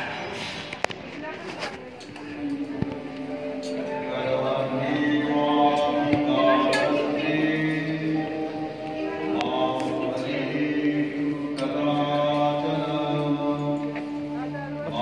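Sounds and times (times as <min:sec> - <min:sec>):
voices chanting held notes: 0:02.4 - 0:15.0.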